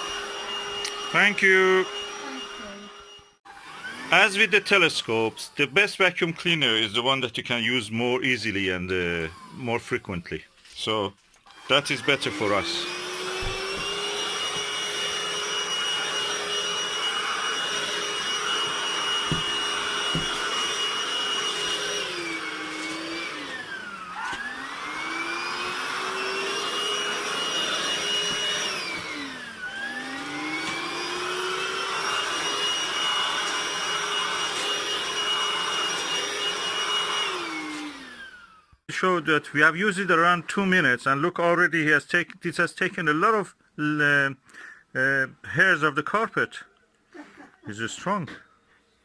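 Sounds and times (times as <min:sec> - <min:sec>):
stick vacuum cleaner whine: 0:00.0 - 0:41.3.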